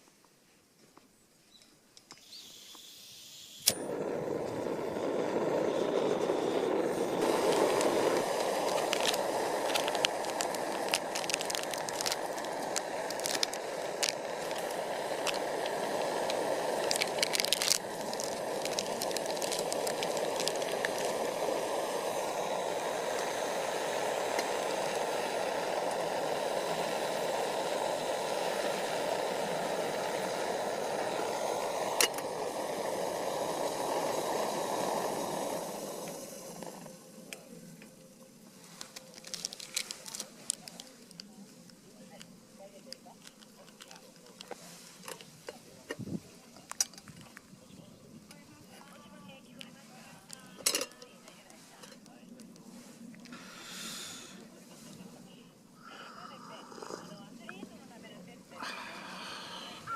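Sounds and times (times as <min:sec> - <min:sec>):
campfire hissing: 0:02.2 - 0:59.9
burning wood crackling and popping: 0:03.9 - 0:54.6.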